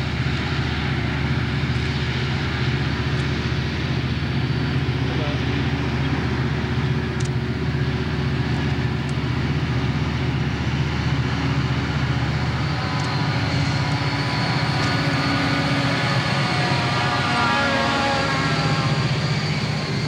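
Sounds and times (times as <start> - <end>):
diesel locomotive engines droning: 0.0 - 20.0
high whine: 0.0 - 20.0.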